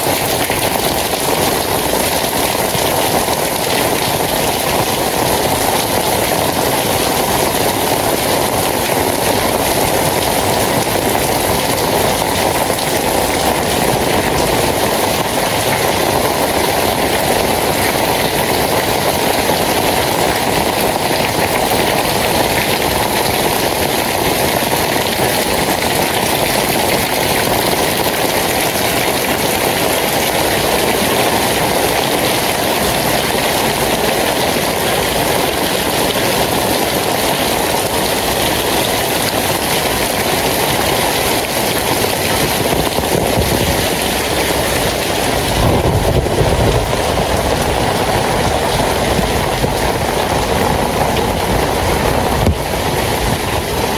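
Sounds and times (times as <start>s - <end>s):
rain falling steadily: 0.0s - 53.9s.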